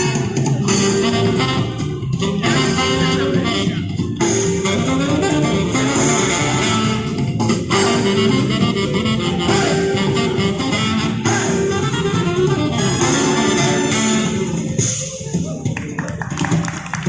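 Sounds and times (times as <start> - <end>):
music playing: 0.0 - 17.0.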